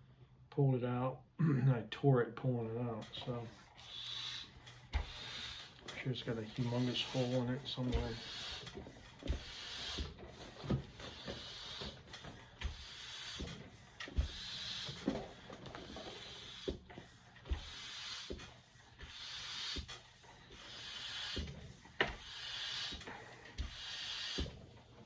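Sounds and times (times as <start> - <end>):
rubber inner tube rubbing: 3.1 - 24.8.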